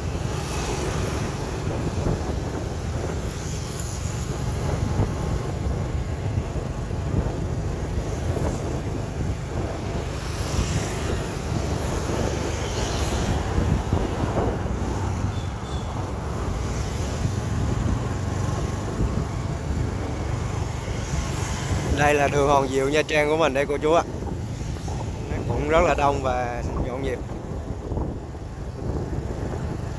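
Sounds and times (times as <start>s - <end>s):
street traffic rumble: 0.0s - 29.9s
wind buffeting microphone: 0.0s - 29.9s.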